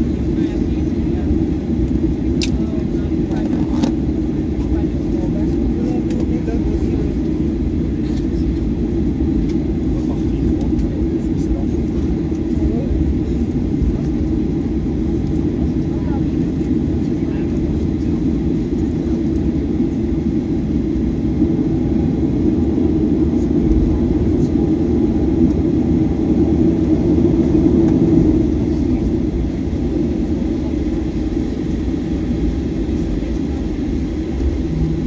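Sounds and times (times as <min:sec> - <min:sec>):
aircraft cabin engine rumble: 0:00.0 - 0:35.0
airframe rolling on taxiway: 0:00.0 - 0:35.0.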